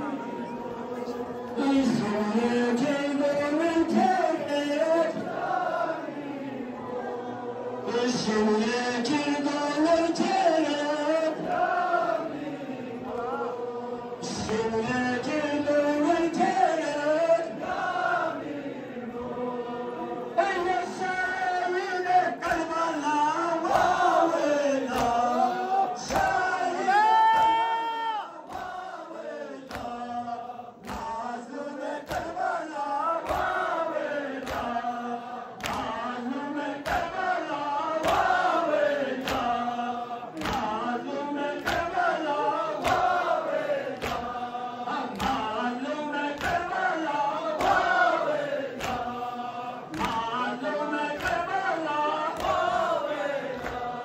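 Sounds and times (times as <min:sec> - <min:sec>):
men chanting together: 0:00.0 - 0:54.0.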